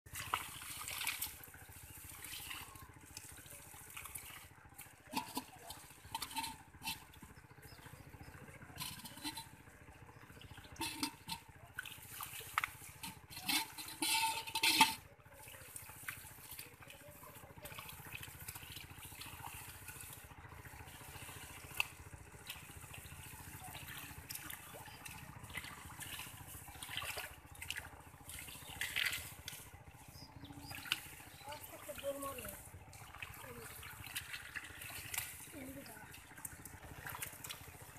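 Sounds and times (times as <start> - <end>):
hands splashing in muddy water: 0.1 - 37.9.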